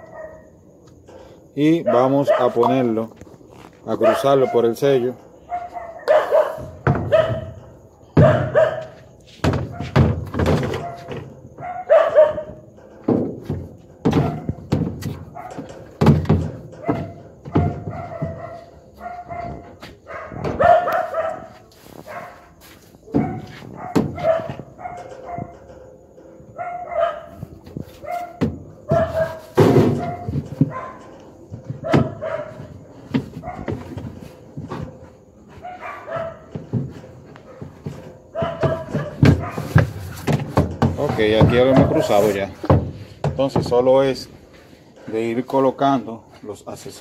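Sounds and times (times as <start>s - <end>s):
dogs barking: 0.0s - 0.7s, 1.8s - 3.0s, 3.9s - 12.8s, 14.0s - 16.1s, 16.7s - 42.8s.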